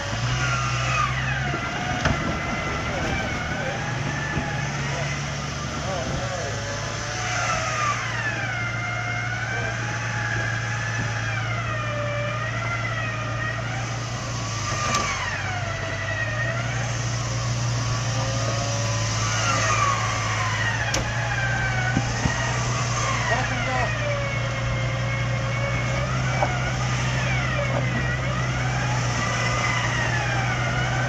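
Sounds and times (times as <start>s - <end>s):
engine revving over low drone: 0.0s - 31.0s.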